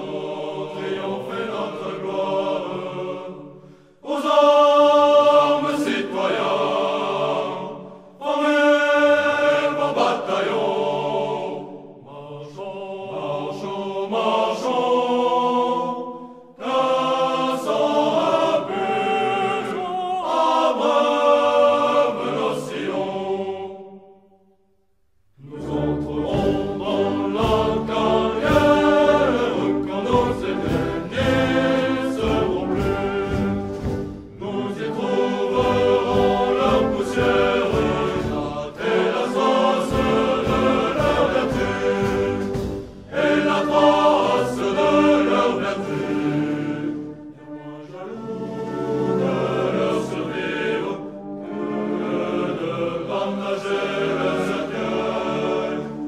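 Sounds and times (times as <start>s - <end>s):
choir singing: 0.0s - 24.6s, 25.4s - 56.0s.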